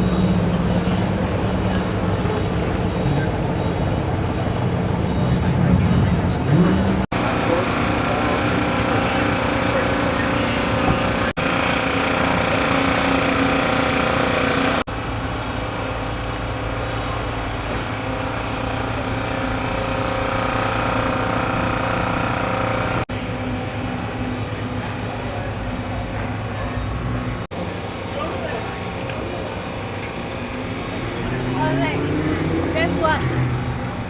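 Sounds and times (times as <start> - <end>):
small engine drone: 0.0 - 34.0.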